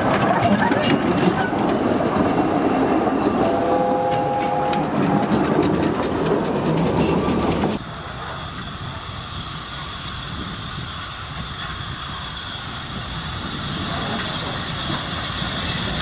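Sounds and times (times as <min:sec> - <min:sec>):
train coaches rolling past: 0:00.0 - 0:16.0
wheels clicking over rail joints: 0:00.0 - 0:16.0.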